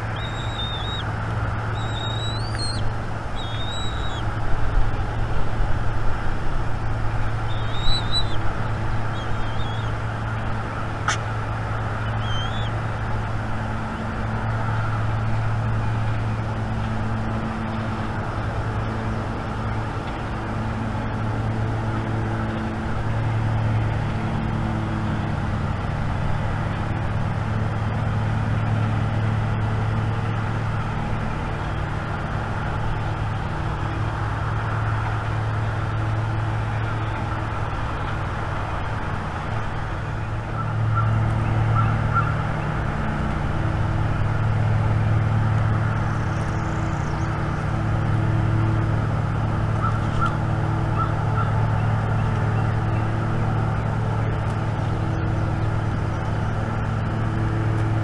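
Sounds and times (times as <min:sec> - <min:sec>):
low rumbling background noise: 0:00.0 - 0:58.0.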